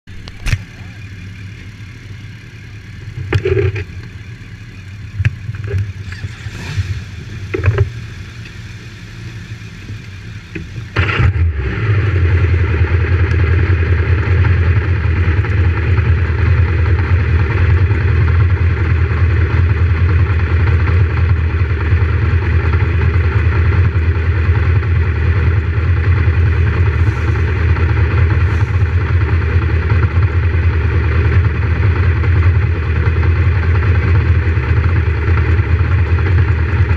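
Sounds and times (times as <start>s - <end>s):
motorcycle engine starting and idling: 0.1s - 36.9s.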